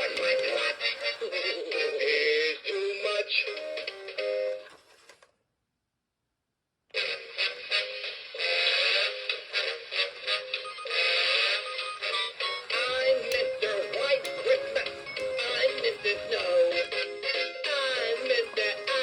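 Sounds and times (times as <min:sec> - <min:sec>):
toy speaker playing song: 0:00.0 - 0:04.7, 0:07.0 - 0:19.0.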